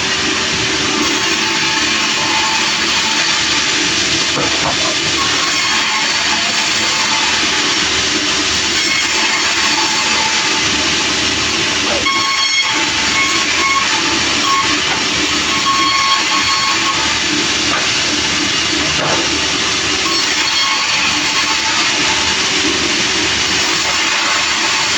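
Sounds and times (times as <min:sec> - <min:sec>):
high ringing saw whine: 0:00.0 - 0:24.9
sawmill blade cutting log: 0:00.0 - 0:24.9.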